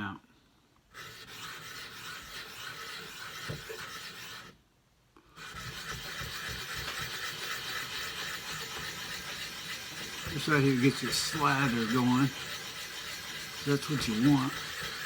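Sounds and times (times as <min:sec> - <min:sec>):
scraping on a wet whetstone: 0:00.9 - 0:04.6, 0:05.4 - 0:15.0.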